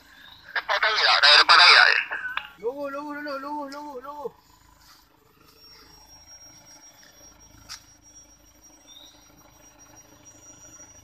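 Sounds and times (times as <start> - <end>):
truck engine running low: 0.0 - 11.0
thin steady high tone: 1.2 - 11.0.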